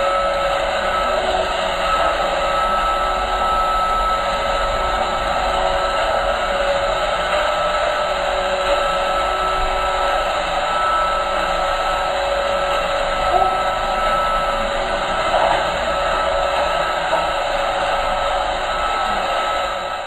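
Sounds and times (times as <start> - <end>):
vacuum cleaner motor whirring: 0.0 - 20.0.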